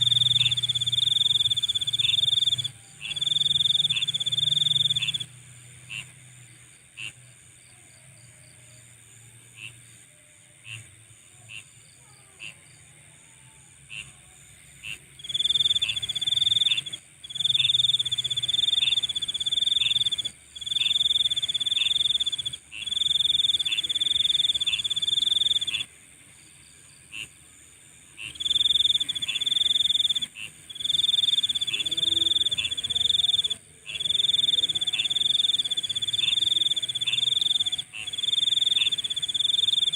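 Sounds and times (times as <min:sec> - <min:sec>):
shrill trilling insect: 0:00.0 - 0:06.1, 0:09.5 - 0:39.9
steady high insect buzz: 0:00.0 - 0:39.9.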